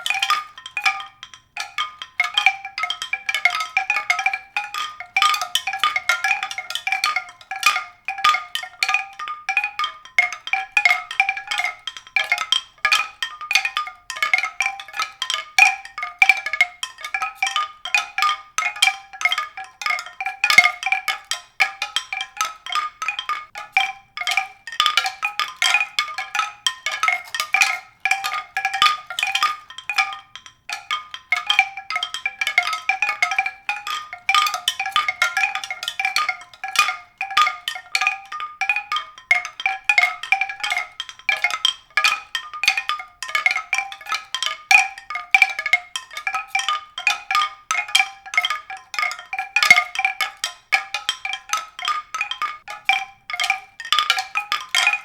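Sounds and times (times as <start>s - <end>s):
tuned mallet percussion run: 0.0s - 55.0s.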